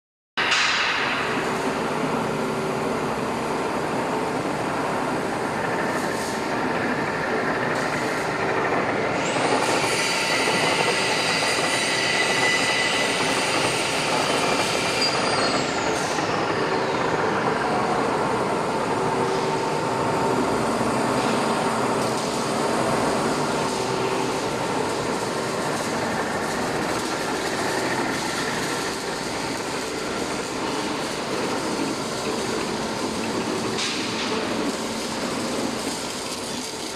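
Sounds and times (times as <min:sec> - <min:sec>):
lathe running with mechanical hum: 0:01.0 - 0:36.9.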